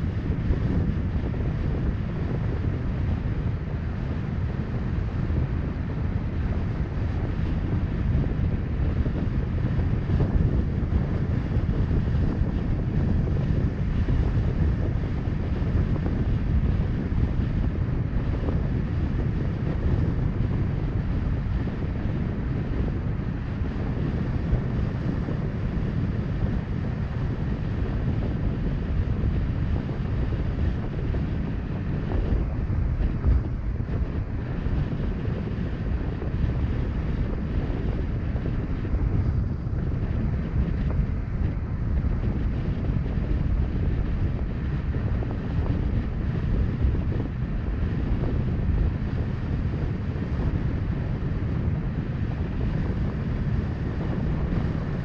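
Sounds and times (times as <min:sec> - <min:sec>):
car road and tyre noise: 0:00.0 - 0:55.0
wind rumbling on microphone: 0:00.0 - 0:55.0.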